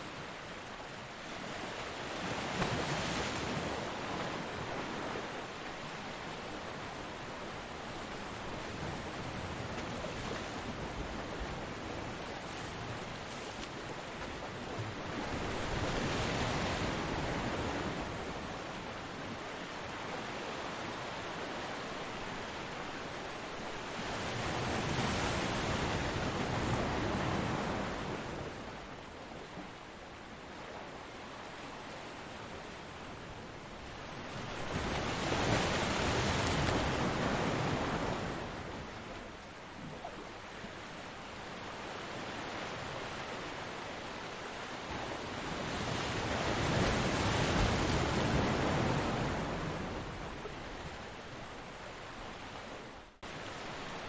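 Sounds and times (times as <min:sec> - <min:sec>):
ocean waves washing on beach: 0:00.0 - 0:54.0.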